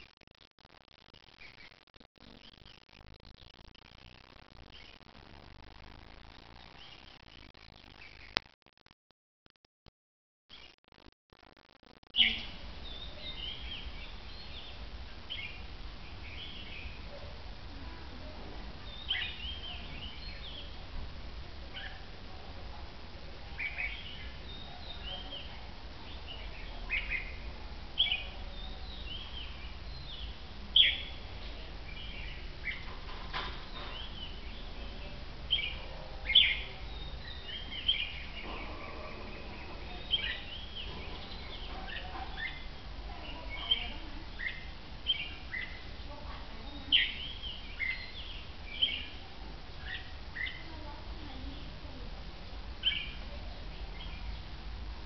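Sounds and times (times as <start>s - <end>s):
birds chirping: 1.2s - 8.5s, 12.0s - 54.8s.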